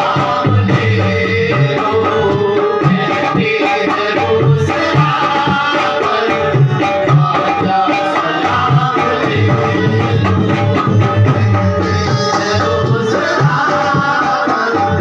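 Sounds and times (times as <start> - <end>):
harmonium melody: 0.0 - 15.0
tabla rhythm: 0.0 - 15.0.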